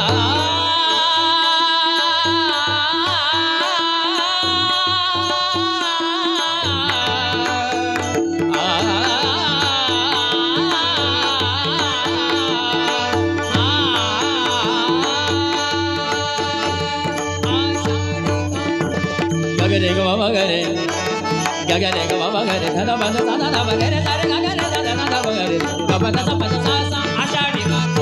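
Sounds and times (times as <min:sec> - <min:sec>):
rhythmic drum accompaniment: 0:00.0 - 0:28.0.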